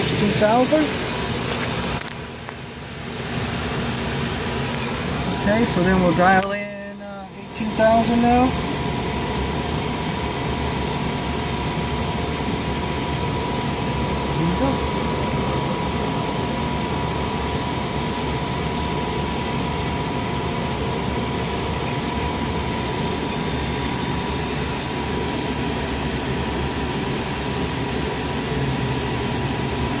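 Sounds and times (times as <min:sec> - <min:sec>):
aircraft machinery whine: 0:00.0 - 0:30.0
constant high tone: 0:02.2 - 0:28.5.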